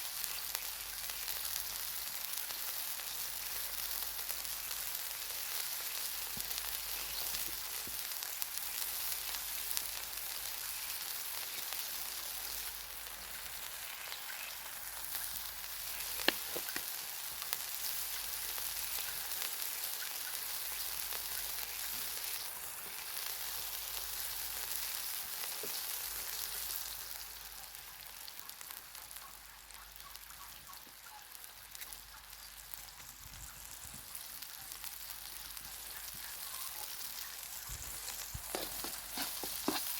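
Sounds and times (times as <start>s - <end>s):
food sizzling over a fire: 0.0s - 39.9s.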